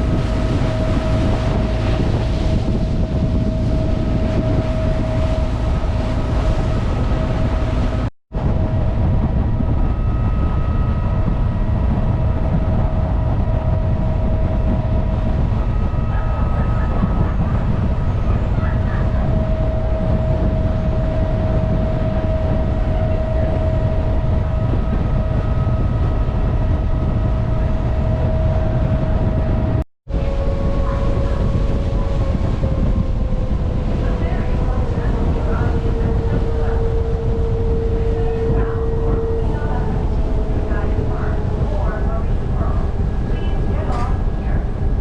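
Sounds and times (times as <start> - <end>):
constant hum: 0.0 - 45.0
ferry engine rumble: 0.0 - 45.0.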